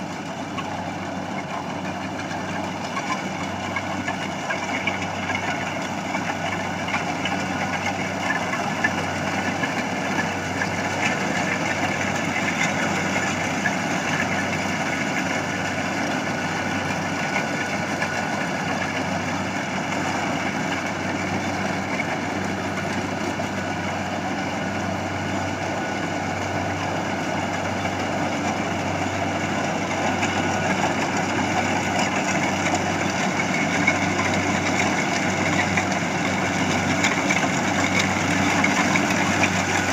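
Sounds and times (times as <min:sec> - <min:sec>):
combine harvester engine drone: 0:00.0 - 0:39.9
machinery noise: 0:00.0 - 0:39.9.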